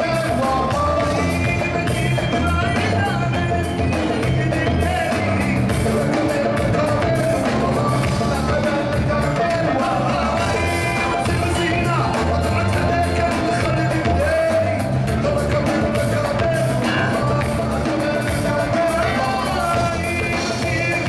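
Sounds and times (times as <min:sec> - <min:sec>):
drum kit beat: 0:00.0 - 0:21.0
electric band playing: 0:00.0 - 0:21.0
electric bass: 0:00.0 - 0:21.0
man singing: 0:00.0 - 0:21.0.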